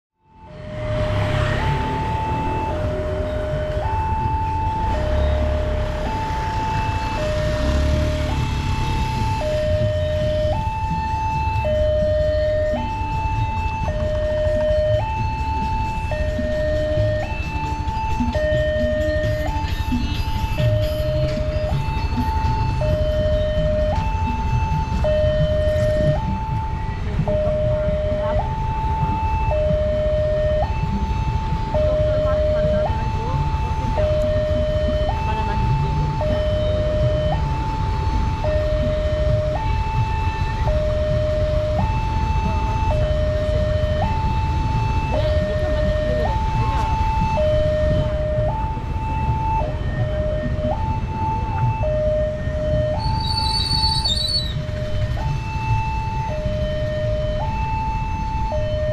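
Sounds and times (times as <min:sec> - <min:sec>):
two-tone level crossing alarm: 0:00.3 - 0:58.9.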